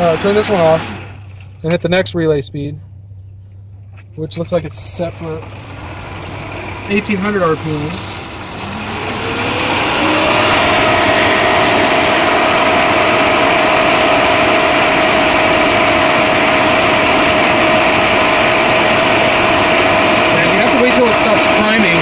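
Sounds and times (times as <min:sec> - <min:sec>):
pool pump whining: 0:00.0 - 0:02.0, 0:04.7 - 0:22.0.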